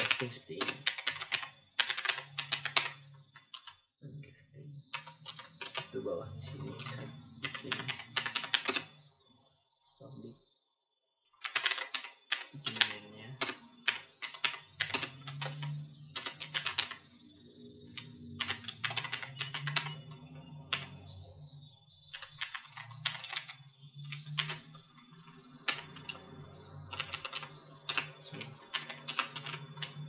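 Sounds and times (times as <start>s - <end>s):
computer keyboard typing: 0.0s - 3.9s, 4.8s - 9.1s, 11.4s - 21.3s, 22.0s - 30.0s.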